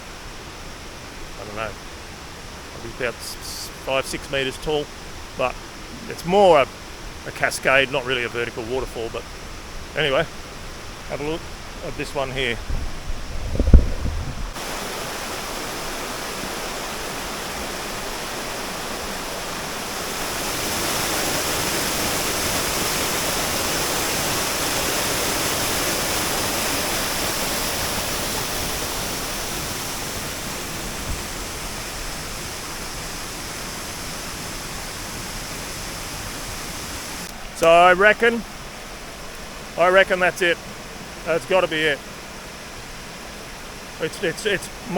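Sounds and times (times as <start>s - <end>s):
waterfall rushing: 0.0s - 12.7s, 14.5s - 44.9s.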